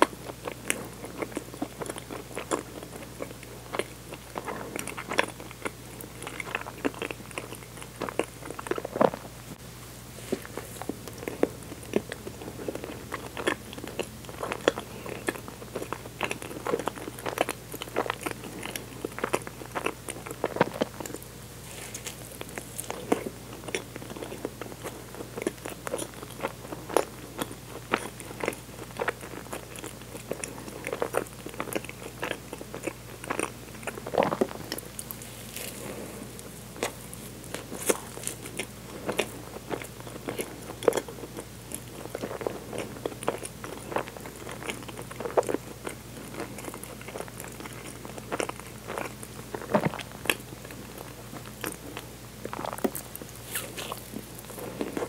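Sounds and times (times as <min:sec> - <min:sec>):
person chewing soft food: 0:00.0 - 0:55.0.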